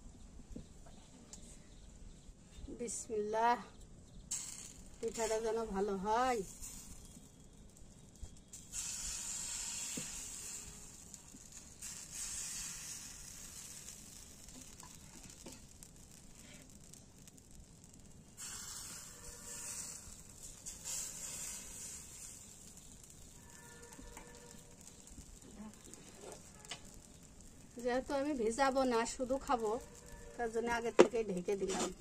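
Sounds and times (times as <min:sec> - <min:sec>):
batter sizzling in a pan: 0:03.7 - 0:32.0.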